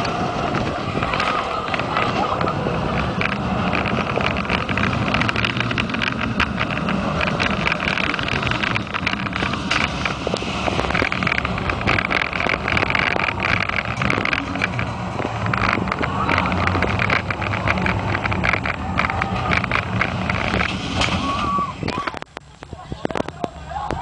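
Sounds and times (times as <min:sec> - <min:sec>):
roller coaster rumbling on track: 0:00.0 - 0:24.0
wind buffeting microphone: 0:00.0 - 0:24.0.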